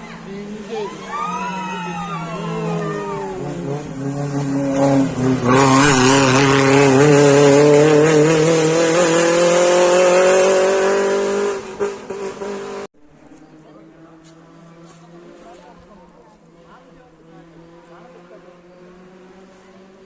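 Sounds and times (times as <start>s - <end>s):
rally car engine accelerating: 0.0s - 20.0s
tyre and road noise: 0.0s - 20.0s.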